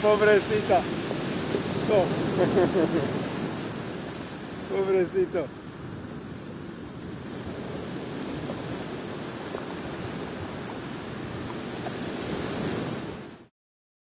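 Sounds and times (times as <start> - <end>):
ocean surf: 0.0 - 13.5.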